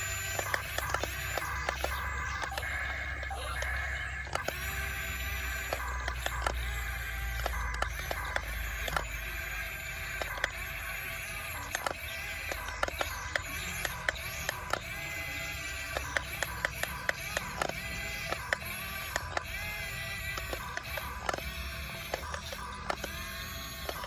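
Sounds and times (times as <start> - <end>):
plastic tracks clicking: 0.0 - 24.0
small electric motors whining: 0.0 - 24.0.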